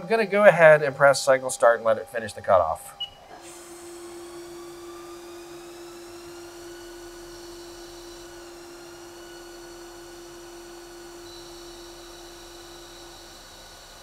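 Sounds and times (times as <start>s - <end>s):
lathe machine whine: 0.0s - 14.0s.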